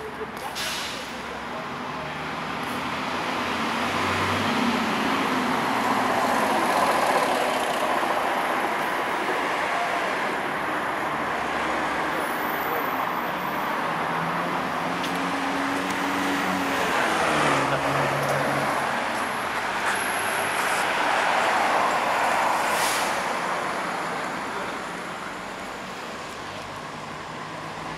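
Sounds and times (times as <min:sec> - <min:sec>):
cars passing on road: 0:00.0 - 0:27.9.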